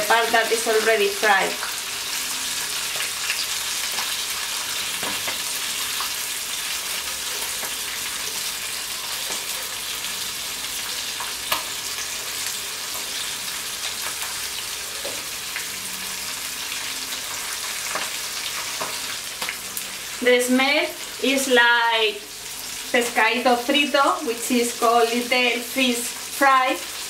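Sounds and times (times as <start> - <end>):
fish sizzling in frying pan: 0.0 - 27.0.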